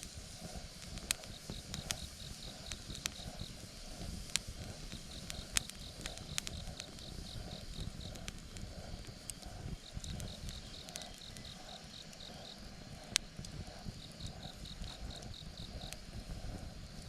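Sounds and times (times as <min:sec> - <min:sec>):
bonfire crackling: 0:00.0 - 0:17.0
insect chirping: 0:00.0 - 0:17.0.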